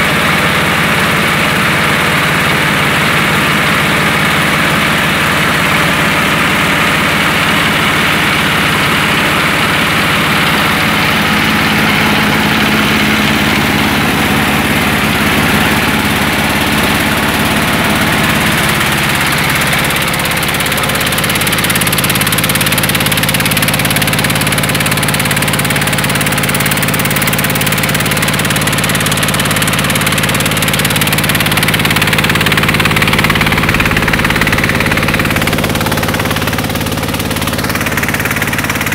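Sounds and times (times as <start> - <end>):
rice huller machine droning: 0.0 - 38.9.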